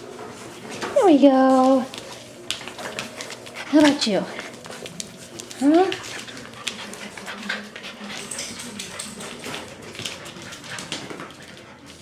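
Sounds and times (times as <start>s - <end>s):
puppies clicking and scuffling: 0.1s - 12.0s.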